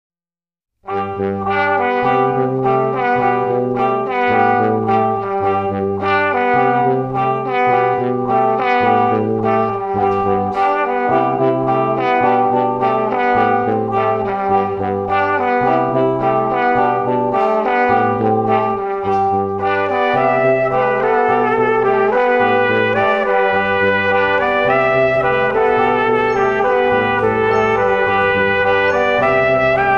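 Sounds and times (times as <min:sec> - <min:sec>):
background music melody: 0:00.9 - 0:29.9.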